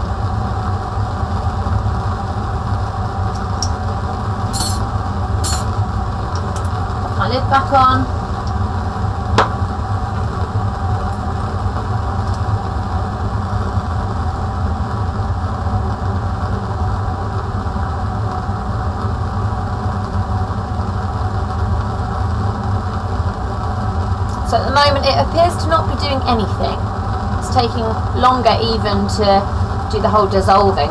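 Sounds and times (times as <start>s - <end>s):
bunsen burner flame: 0.0s - 30.9s
extraction fan drone: 0.0s - 30.9s.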